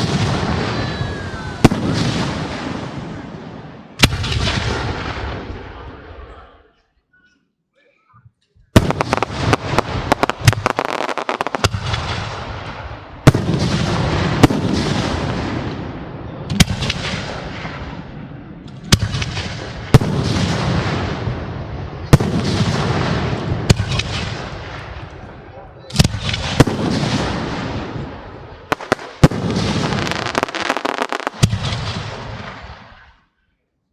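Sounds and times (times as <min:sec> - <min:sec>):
firework booms with rumbling echo: 0:00.0 - 0:06.2, 0:08.8 - 0:33.1
crackling volley of fireworks: 0:00.0 - 0:06.5, 0:08.7 - 0:33.3.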